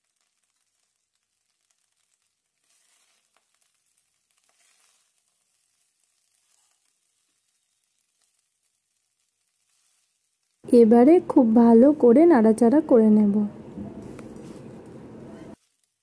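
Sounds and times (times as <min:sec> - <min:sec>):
rice sizzling in a pan: 0:00.0 - 0:12.4, 0:15.4 - 0:16.0.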